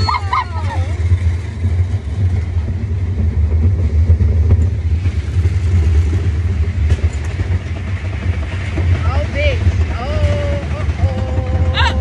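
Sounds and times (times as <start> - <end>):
roller coaster rumble: 0.0 - 12.0.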